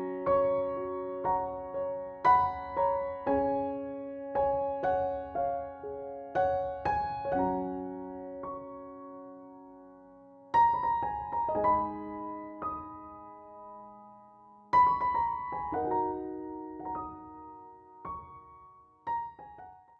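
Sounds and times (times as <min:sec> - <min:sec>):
slow gentle solo piano: 0:00.0 - 0:19.9.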